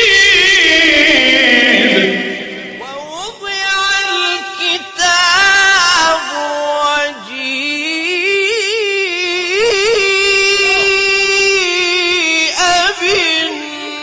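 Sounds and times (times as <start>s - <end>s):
person reciting in melodic style: 0.0s - 14.0s.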